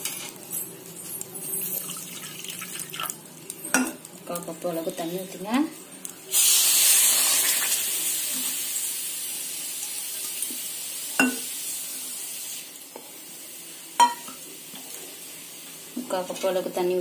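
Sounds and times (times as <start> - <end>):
sugar sizzling in frying pan: 0.0 - 17.0.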